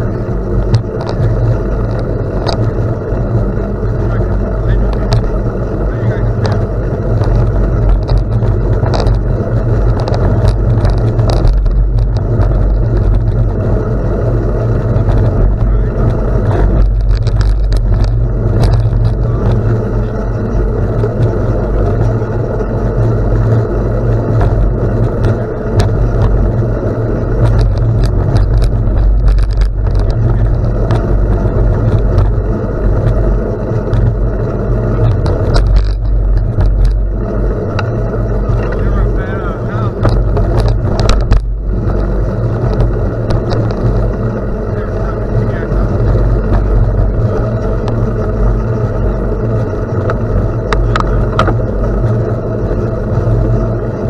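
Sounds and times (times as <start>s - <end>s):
bicycle tyre noise: 0.0s - 54.0s
gravel ticks and crunches: 0.0s - 54.0s
wind rumble on microphone: 0.0s - 54.0s.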